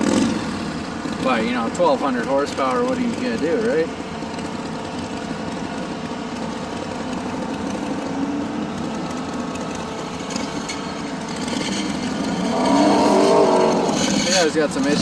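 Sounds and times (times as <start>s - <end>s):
motorcycle engine starting and running: 0.0s - 15.0s.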